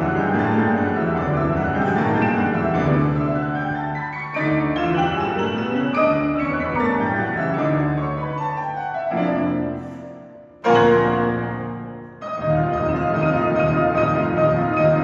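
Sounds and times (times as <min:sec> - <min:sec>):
pianos playing chords: 0:00.0 - 0:15.0.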